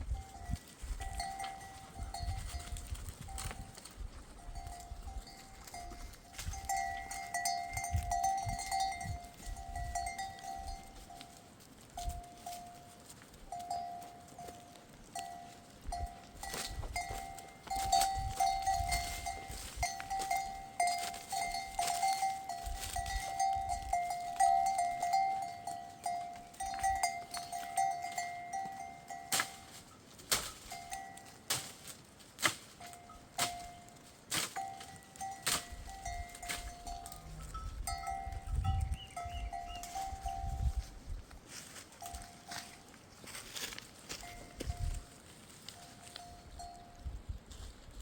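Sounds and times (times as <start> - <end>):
sheep bells ringing: 0.0 - 32.1, 32.7 - 47.3.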